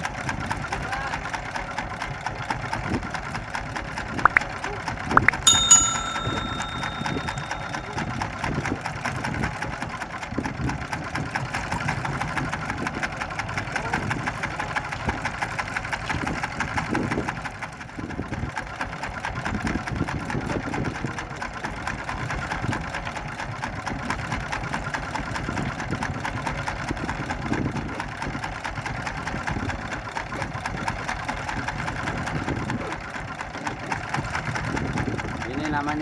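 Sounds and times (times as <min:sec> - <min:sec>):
boat engine chattering: 0:00.0 - 0:36.0.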